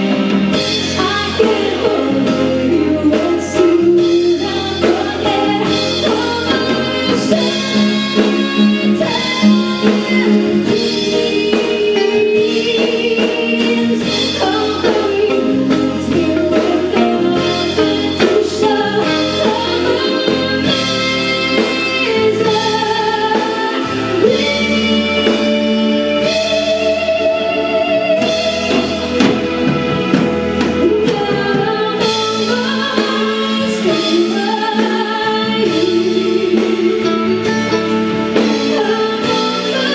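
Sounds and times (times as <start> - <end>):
live band playing: 0.0 - 39.9
woman singing into a microphone: 0.5 - 29.3, 30.6 - 39.9.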